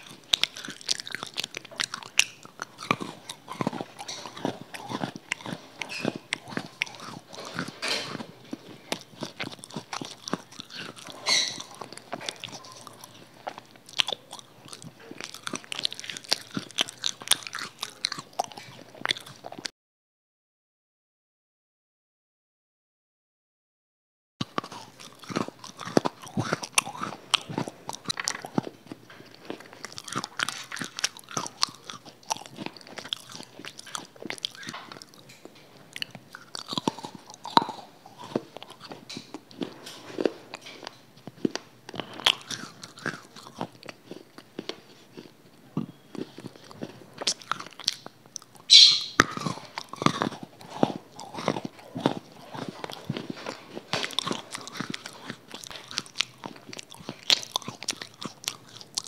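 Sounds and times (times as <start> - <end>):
crunching and chewing: 0.0 - 19.7, 24.4 - 59.0.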